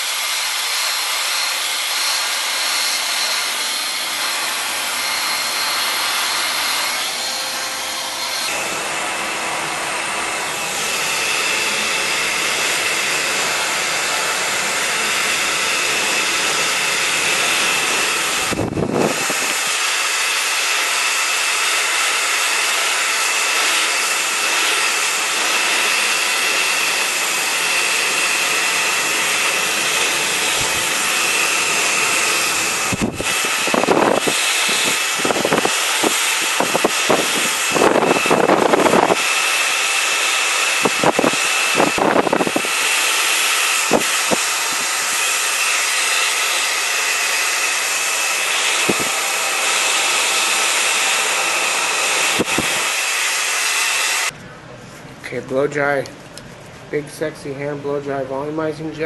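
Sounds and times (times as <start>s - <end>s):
hair dryer blowing: 0.0s - 54.4s.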